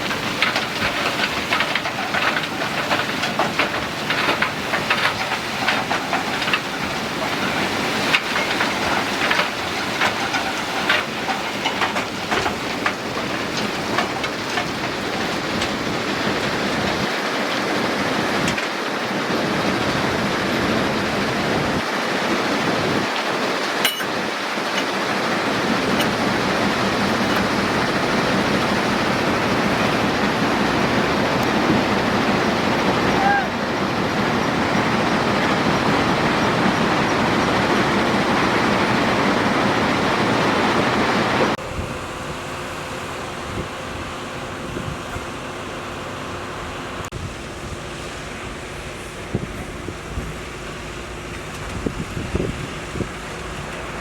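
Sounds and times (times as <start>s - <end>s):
heavy machinery clanking: 0.0s - 54.0s
machinery rumble: 0.0s - 54.0s.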